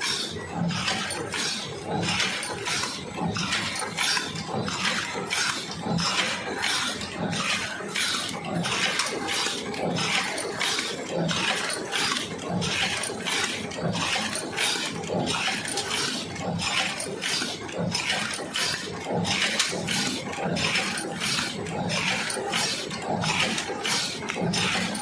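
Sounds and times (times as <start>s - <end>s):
paper cup machine running: 0.0s - 25.0s.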